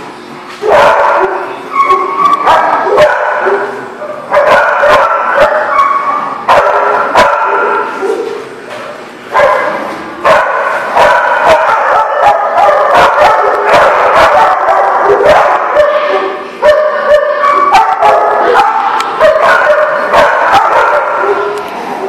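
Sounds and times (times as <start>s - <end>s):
dogs barking and yipping: 0.6s - 8.5s, 9.3s - 22.0s.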